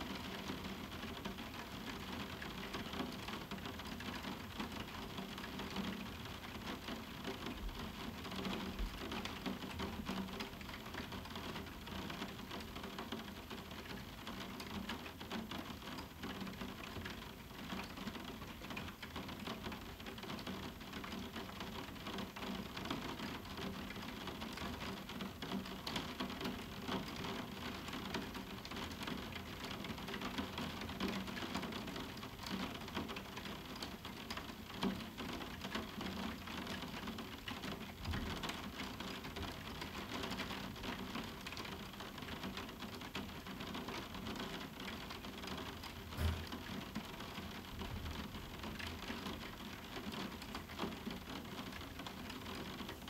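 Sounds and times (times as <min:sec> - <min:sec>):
rain on a roof window: 0:00.0 - 0:53.0.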